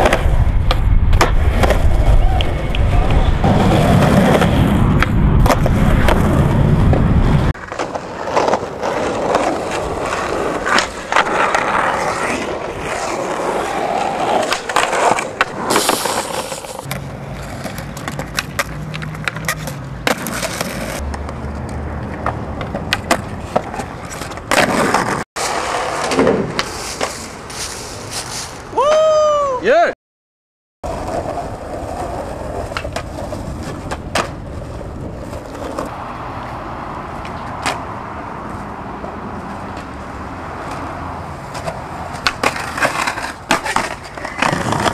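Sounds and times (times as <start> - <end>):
skateboard tails clacking: 0.0 - 7.0, 7.6 - 28.1, 30.9 - 35.9, 37.1 - 38.6, 40.6 - 44.9
skateboards rolling on concrete: 0.0 - 29.8, 30.8 - 44.9.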